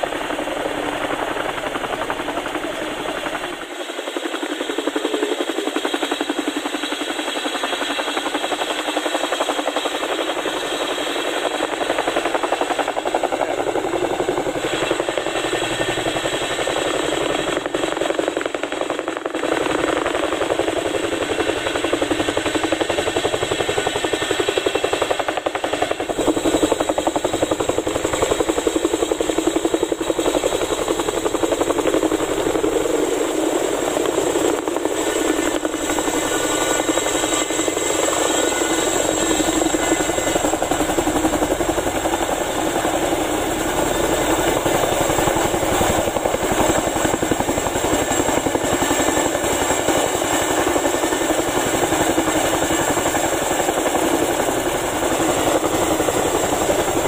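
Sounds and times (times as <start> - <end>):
helicopter rotors chopping: 0.0 - 57.0.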